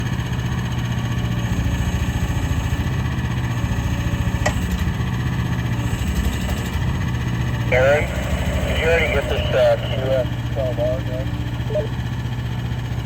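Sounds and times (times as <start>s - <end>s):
excavator engine idling: 0.0s - 13.0s.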